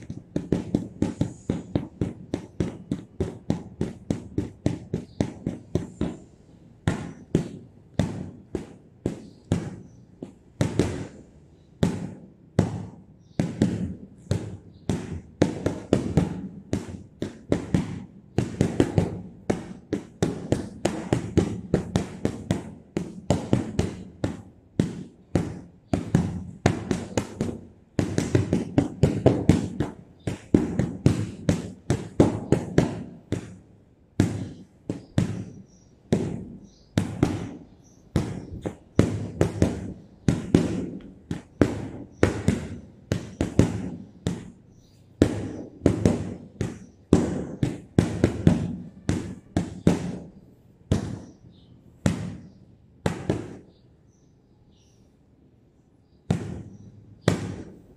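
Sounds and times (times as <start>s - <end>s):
boxing gloves thudding on heavy bag: 0.0s - 33.6s, 34.2s - 53.6s, 56.3s - 57.9s.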